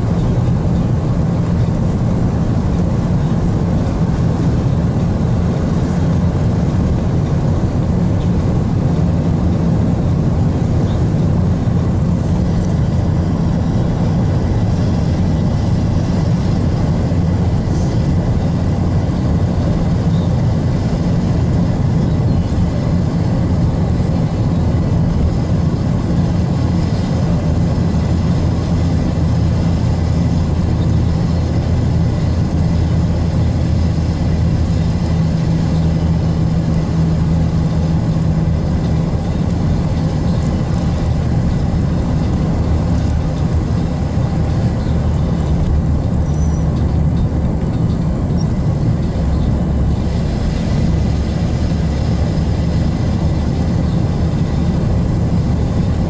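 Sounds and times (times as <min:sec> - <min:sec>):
car driving at speed: 0:00.0 - 0:56.0.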